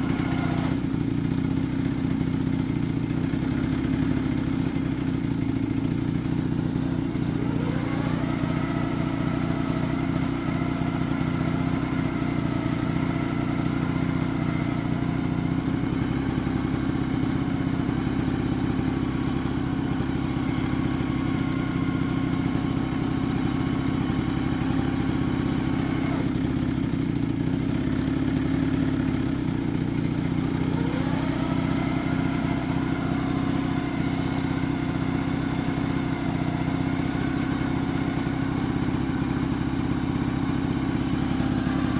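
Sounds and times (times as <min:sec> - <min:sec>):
scooter engine running: 0:00.0 - 0:41.9.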